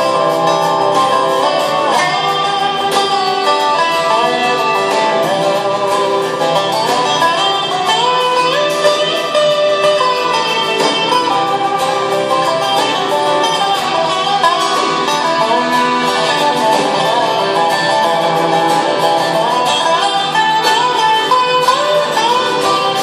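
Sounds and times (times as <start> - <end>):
accordion: 0.0 - 23.0
dobro sliding melody: 0.0 - 23.0
double bass: 0.0 - 23.0
drums: 0.0 - 23.0
fiddle: 0.0 - 23.0
guitar: 0.0 - 23.0.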